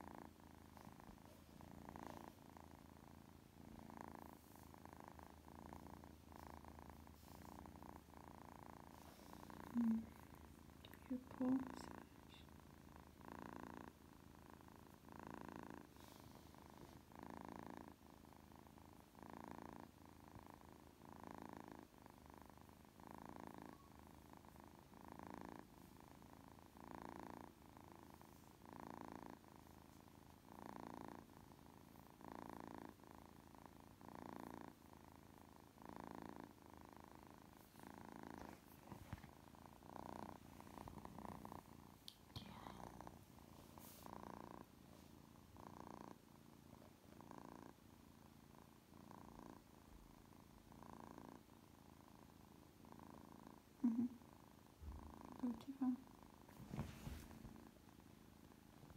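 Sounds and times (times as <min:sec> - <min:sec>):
kitten purring: 0:00.0 - 0:58.9.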